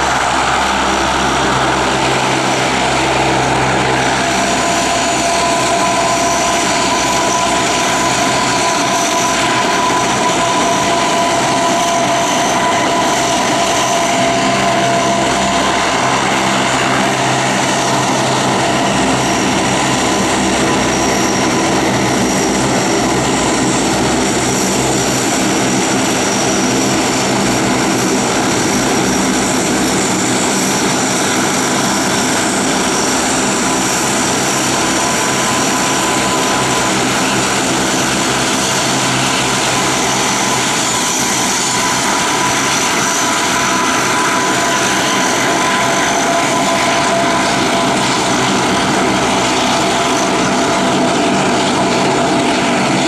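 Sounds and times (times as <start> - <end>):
propeller aircraft engines droning: 0.0 - 53.0.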